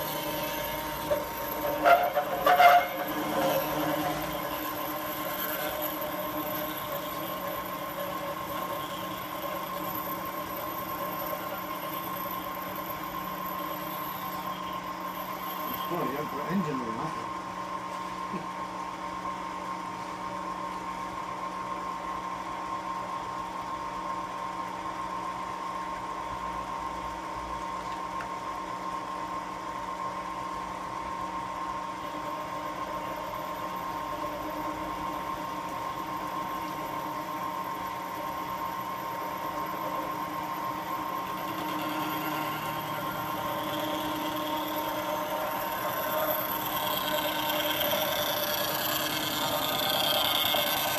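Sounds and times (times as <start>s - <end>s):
milling machine running: 0.0s - 20.0s, 23.2s - 50.9s.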